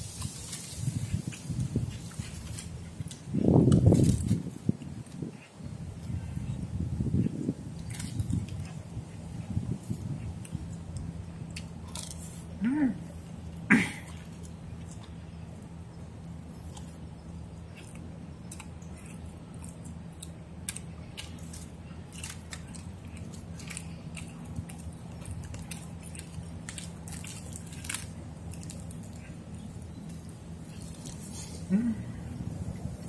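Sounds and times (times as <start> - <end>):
chewing and crunching food: 0.0 - 33.0.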